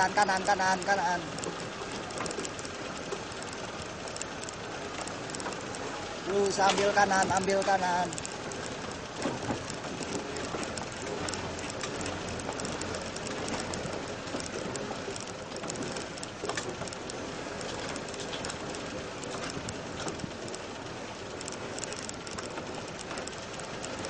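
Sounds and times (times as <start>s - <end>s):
off-road vehicle rumbling: 0.0s - 24.0s.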